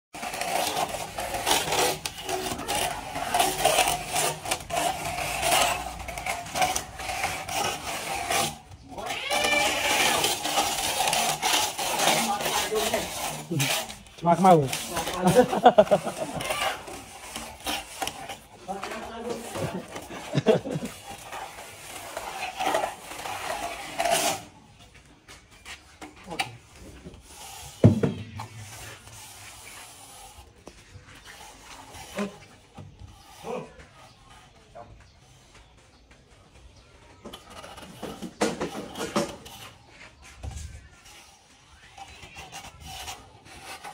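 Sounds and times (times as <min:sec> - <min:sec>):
straightedge scraping cement: 0:00.1 - 0:35.8, 0:36.8 - 0:43.9.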